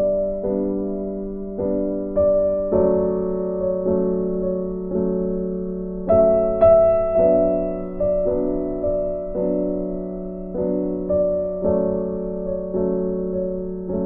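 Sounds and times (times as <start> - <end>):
gentle electric piano tune: 0.0 - 14.0.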